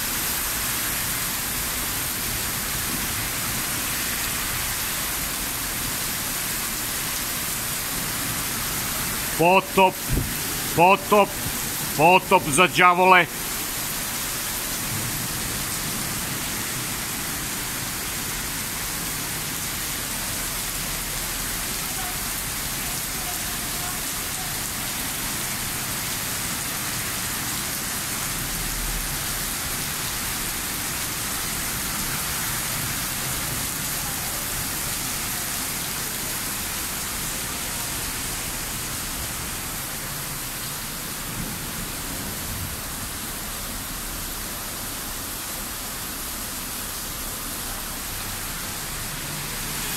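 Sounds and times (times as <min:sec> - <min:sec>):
heavy rain on pavement: 0:00.0 - 0:49.9.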